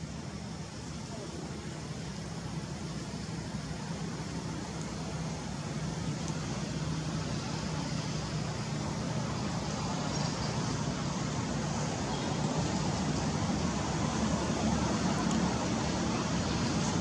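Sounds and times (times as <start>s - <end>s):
low droning rumble with hiss: 0.0s - 17.0s.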